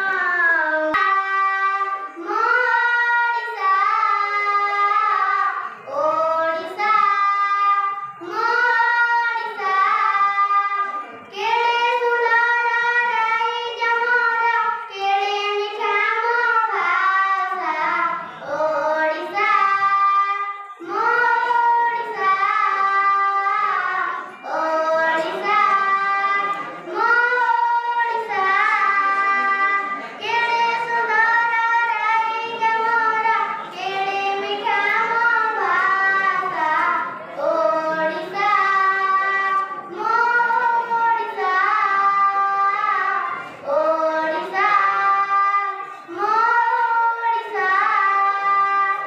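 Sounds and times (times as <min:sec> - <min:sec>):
boy singing: 0:00.0 - 0:49.0.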